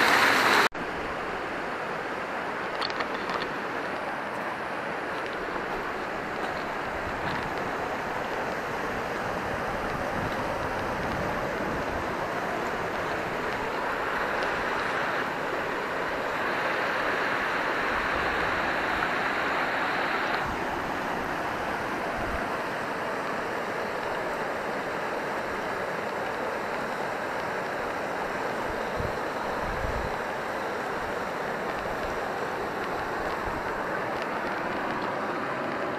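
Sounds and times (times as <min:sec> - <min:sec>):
mountain stream rushing: 0:00.0 - 0:35.9.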